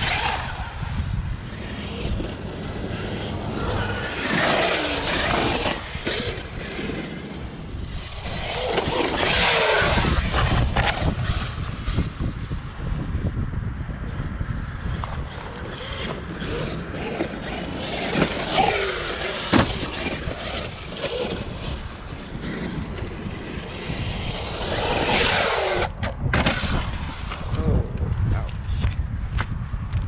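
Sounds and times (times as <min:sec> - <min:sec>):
electric motor whining: 0:00.0 - 0:12.6, 0:14.8 - 0:27.7.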